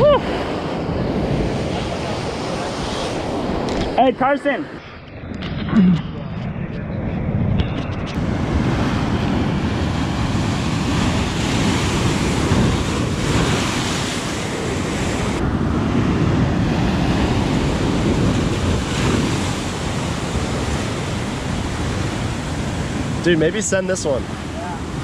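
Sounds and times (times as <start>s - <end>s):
waves surging over rocks: 0.0s - 4.8s, 8.2s - 25.0s
wind buffeting microphone: 0.0s - 25.0s.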